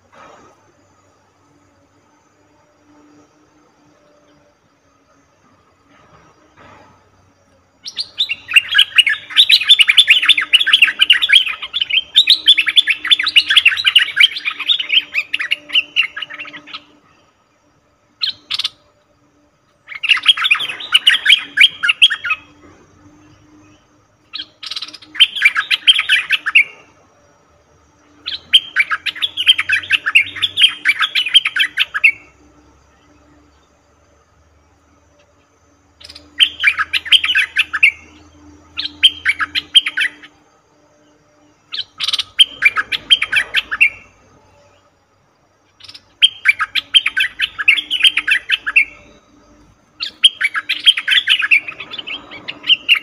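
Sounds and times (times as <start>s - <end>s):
bird chattering song: 7.8s - 17.4s, 18.1s - 34.1s, 35.2s - 44.9s, 45.6s - 53.0s.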